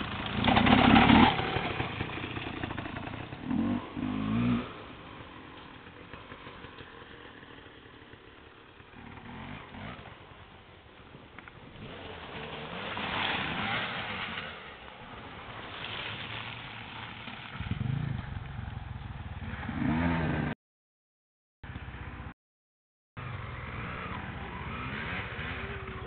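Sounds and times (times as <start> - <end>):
motorcycle engine revving: 0.0 - 10.8, 11.4 - 20.6, 23.2 - 26.0
off-road motorcycles riding past: 0.0 - 20.6, 23.2 - 26.0.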